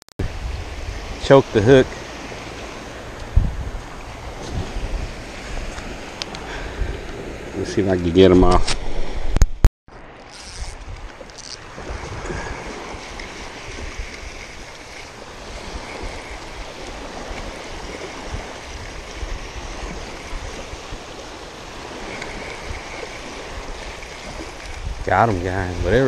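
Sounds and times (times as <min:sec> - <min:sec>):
small waves lapping on sand: 0:00.2 - 0:09.3, 0:09.9 - 0:26.0
wind gusting on microphone: 0:00.2 - 0:26.0.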